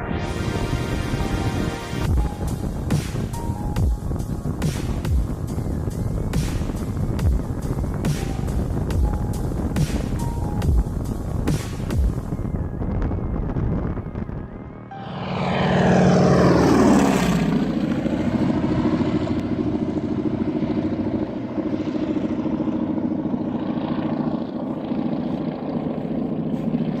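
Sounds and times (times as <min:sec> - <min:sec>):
propeller airplane engine: 0:00.0 - 0:27.0.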